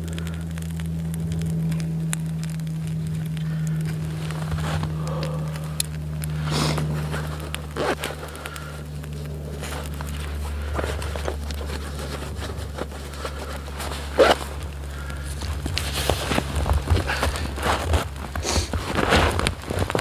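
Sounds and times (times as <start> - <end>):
fire crackling and popping: 0.0 - 20.0
steady low hum: 0.0 - 20.0.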